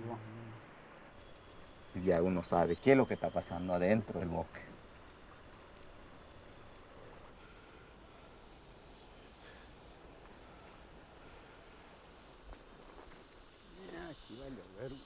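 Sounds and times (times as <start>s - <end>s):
insects chirping trill: 0.0s - 15.0s
low steady hiss: 0.0s - 15.0s.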